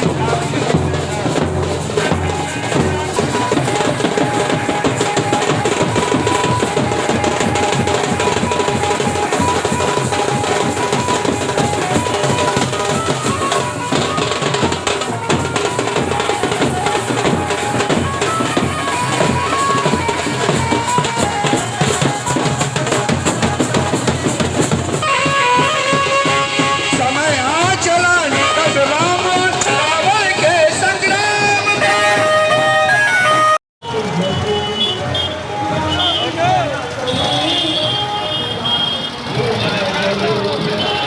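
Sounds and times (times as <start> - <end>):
loud music with heavy drums: 0.0 - 41.0.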